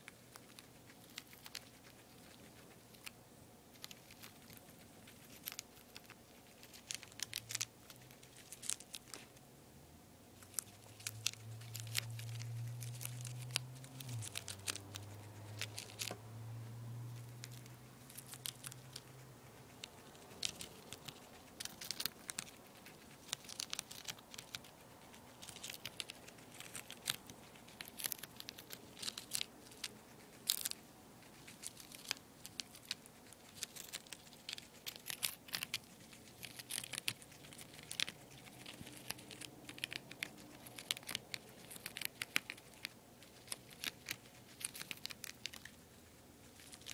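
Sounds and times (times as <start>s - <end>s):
guinea pig chewing lettuce: 0.0s - 9.5s, 10.3s - 46.9s
low steady hum: 0.0s - 46.9s.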